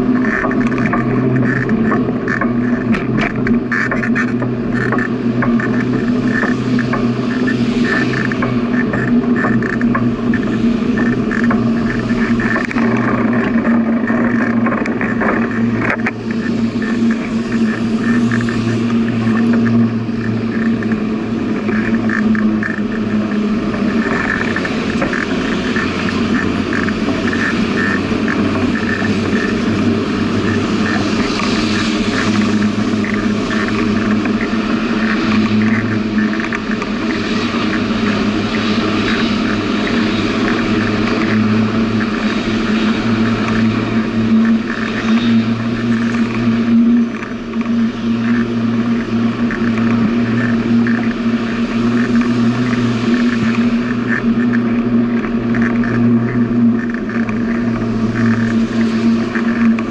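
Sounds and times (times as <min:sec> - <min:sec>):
bicycle rolling noise: 0:00.0 - 0:59.9
low hum: 0:00.0 - 0:59.9
wind noise: 0:00.0 - 0:59.9.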